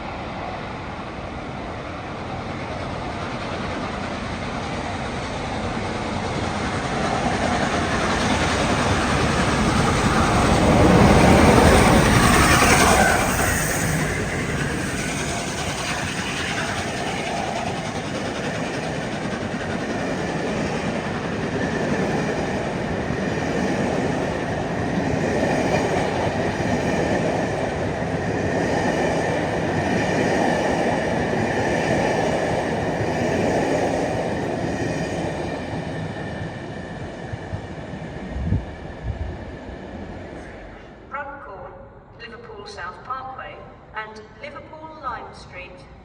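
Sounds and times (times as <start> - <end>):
train passing with wheel clatter: 0.0 - 41.1.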